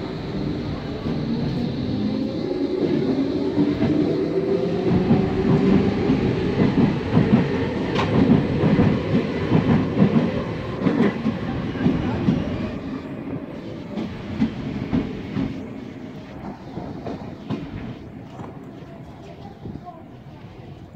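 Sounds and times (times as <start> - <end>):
electric train passing: 0.0 - 20.9.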